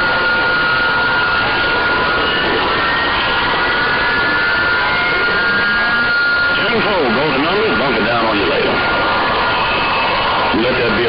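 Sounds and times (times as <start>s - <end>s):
radio static rush: 0.0s - 11.0s
thin radio whistles: 0.0s - 11.0s.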